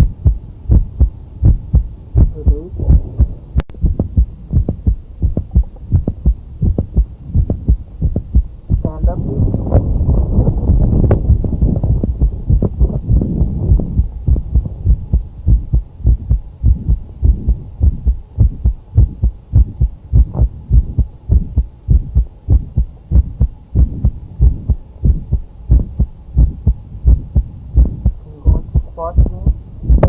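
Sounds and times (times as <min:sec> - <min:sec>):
heart valve click: 0:00.0 - 0:30.0
heartbeat thuds: 0:00.0 - 0:30.0.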